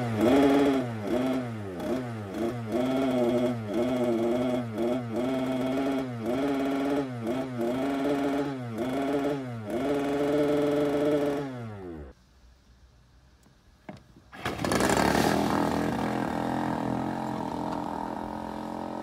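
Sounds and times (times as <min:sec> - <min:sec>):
small two-stroke engine revving: 0:00.0 - 0:12.2, 0:14.4 - 0:19.0.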